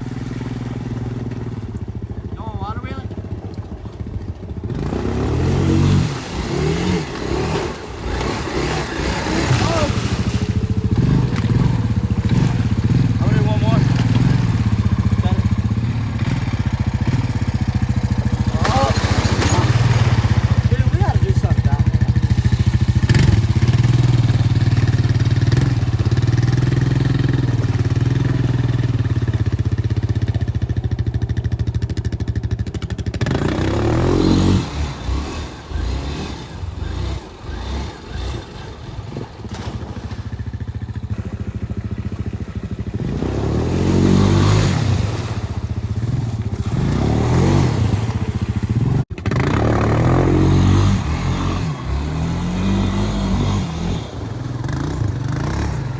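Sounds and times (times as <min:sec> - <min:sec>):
small vehicle engine revving: 0:03.1 - 0:55.9.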